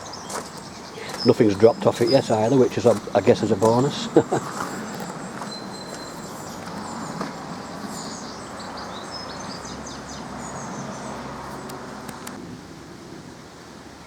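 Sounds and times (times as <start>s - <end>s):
small birds chirping: 0.0s - 12.4s
outdoor background hiss: 0.0s - 14.0s.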